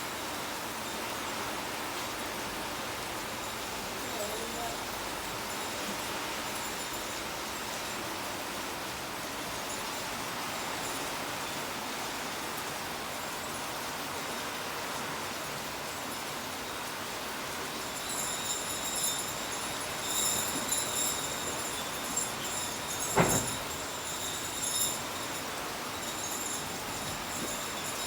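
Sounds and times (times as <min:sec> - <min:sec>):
steady rain falling: 0:00.0 - 0:28.0
high jingling ringing tones: 0:02.8 - 0:14.0, 0:16.1 - 0:28.0.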